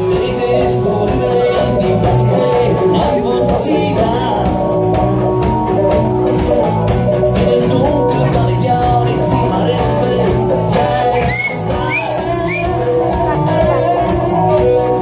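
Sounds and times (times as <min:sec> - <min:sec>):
man singing: 0:00.0 - 0:05.2, 0:07.2 - 0:15.0
live rock band playing: 0:00.0 - 0:15.0.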